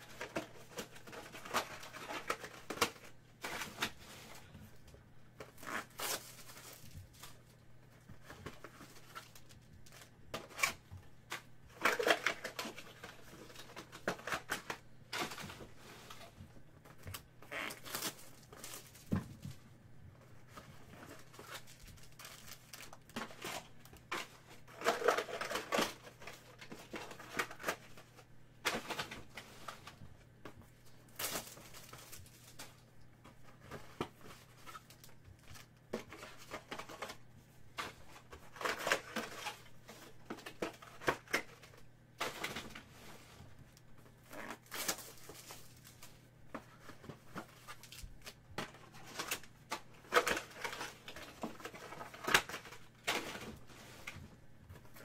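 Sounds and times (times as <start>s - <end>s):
packaging crinkling and tearing: 0.0s - 4.5s, 5.4s - 19.2s, 20.5s - 30.0s, 30.8s - 32.9s, 33.5s - 42.9s, 43.8s - 54.2s.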